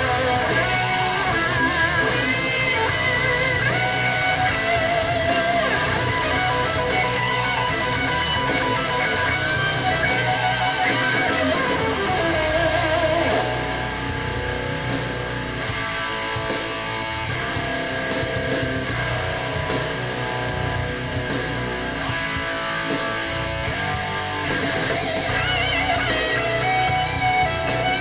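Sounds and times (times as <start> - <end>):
bass guitar: 0.0 - 28.0
electric guitar lead: 0.0 - 28.0
strummed guitar: 0.0 - 28.0.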